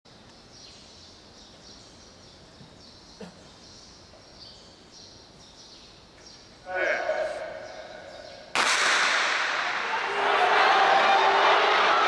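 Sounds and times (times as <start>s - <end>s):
hushed stadium ambience: 0.1s - 12.0s.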